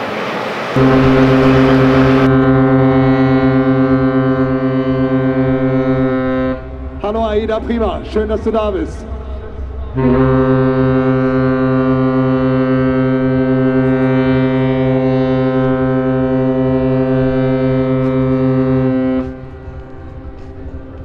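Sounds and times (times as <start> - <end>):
deep ship's horn blast: 0.7 - 21.0.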